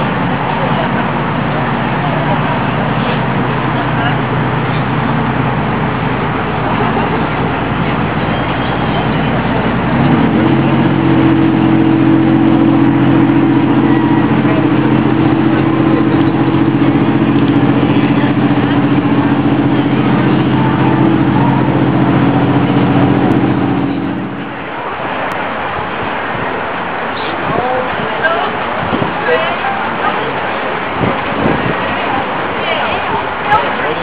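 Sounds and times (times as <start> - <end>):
large engine running: 0.0 - 34.0
noisy rumble: 0.0 - 34.0.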